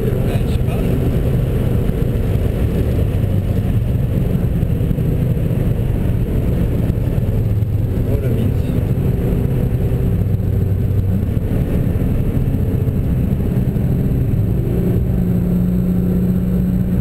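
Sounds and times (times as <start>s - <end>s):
car engine drone in cabin: 0.0s - 17.0s
road noise: 0.0s - 17.0s
wind noise: 0.0s - 17.0s.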